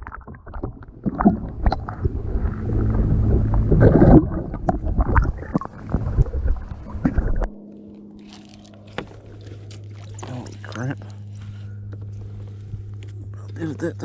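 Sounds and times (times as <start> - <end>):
low rumbling: 0.0 - 14.0
steady low hum: 0.6 - 14.0.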